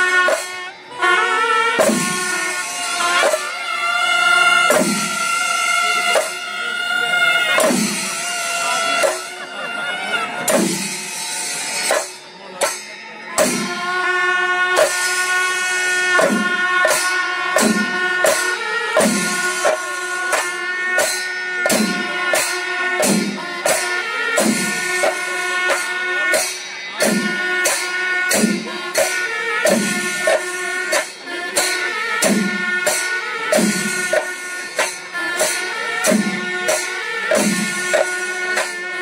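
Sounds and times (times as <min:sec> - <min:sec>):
clashing hand cymbals: 0:00.0 - 0:39.0
drums beaten with sticks: 0:00.0 - 0:39.0.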